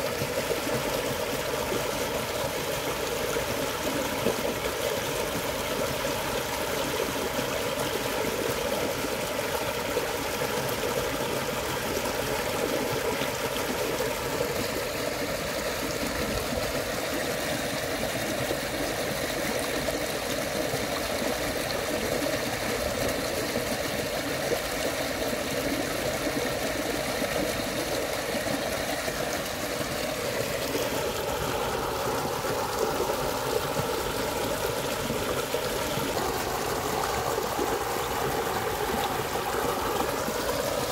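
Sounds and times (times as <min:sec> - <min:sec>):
stream rushing over rapids: 0:00.0 - 0:40.9.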